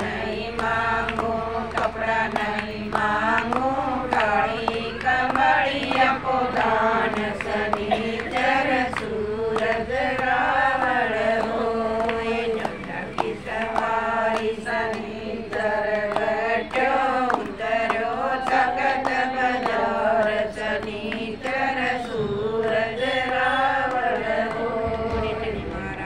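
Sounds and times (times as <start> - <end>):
hand claps: 0.0 - 26.0
women singing in unison: 0.0 - 26.0.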